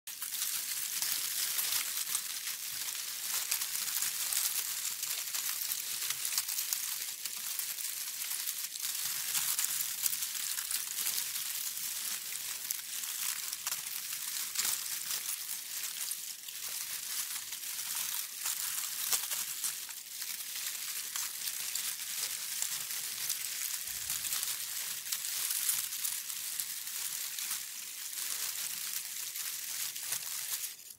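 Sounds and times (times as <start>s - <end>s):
leaves rustling: 0.1s - 30.9s.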